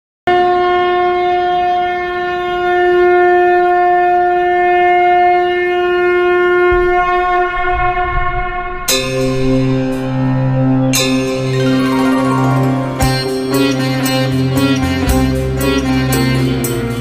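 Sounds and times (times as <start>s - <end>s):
conch shell blown: 0.3s - 17.0s.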